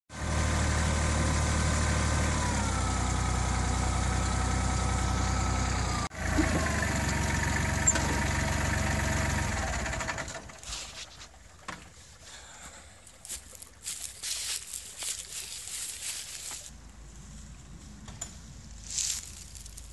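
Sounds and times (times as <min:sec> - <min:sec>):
tractor diesel engine running: 0:00.1 - 0:19.9.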